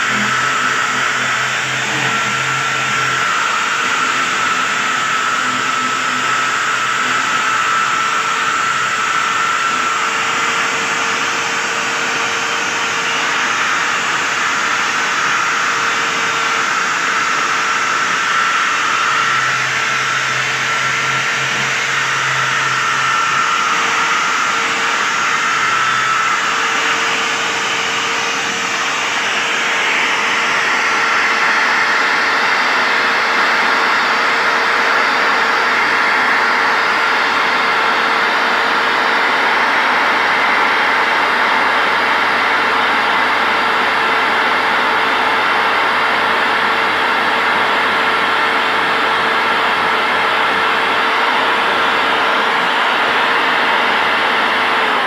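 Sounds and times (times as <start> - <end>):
angle grinder wire brush whining: 0.0 - 55.0.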